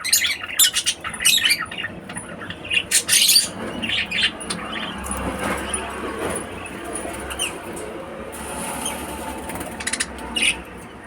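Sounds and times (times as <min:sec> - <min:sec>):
lovebirds chirping and clicking: 0:00.0 - 0:11.0
steady background noise: 0:00.0 - 0:11.0.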